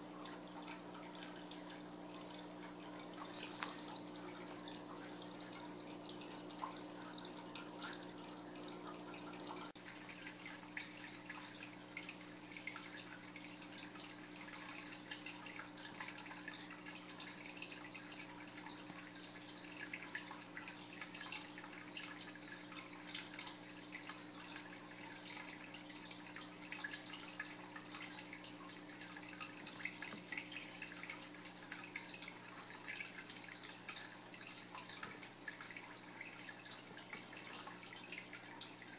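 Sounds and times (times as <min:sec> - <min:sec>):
aquarium water trickling: 0:00.0 - 0:38.9.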